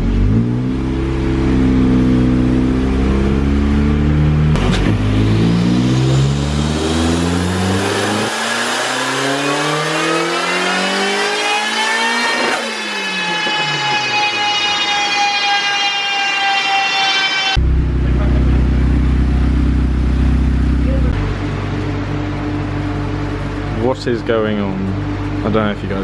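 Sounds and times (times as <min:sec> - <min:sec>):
car engine revving on dyno: 0:00.0 - 0:25.7.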